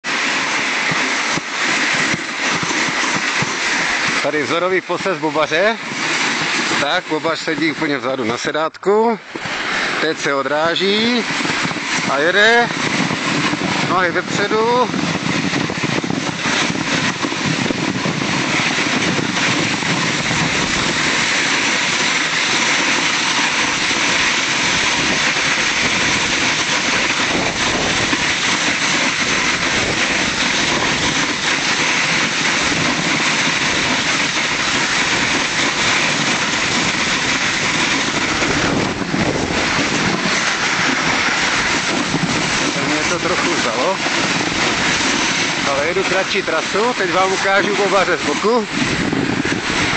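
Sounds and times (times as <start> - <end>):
sled scraping on snow: 0.0 - 49.9.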